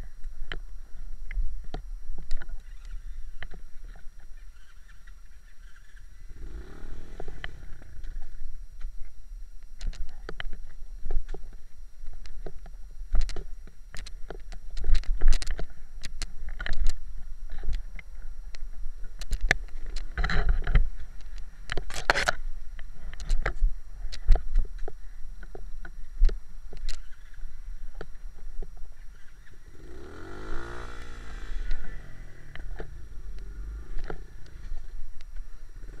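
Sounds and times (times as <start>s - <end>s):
dirt bike engine low rumble: 0.0s - 36.0s.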